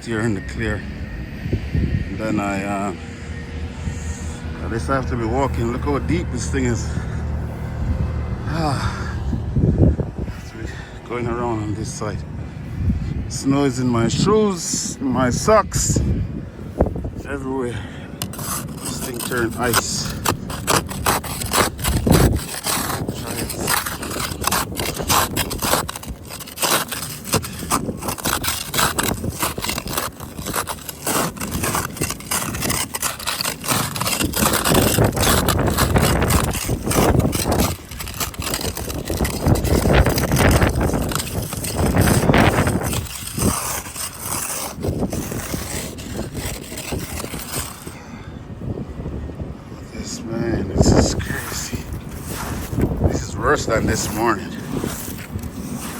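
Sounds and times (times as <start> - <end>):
scraping ice off a car: 0.0 - 0.8, 2.2 - 9.4, 10.3 - 48.0, 50.0 - 55.9
wind buffeting microphone: 0.0 - 55.9.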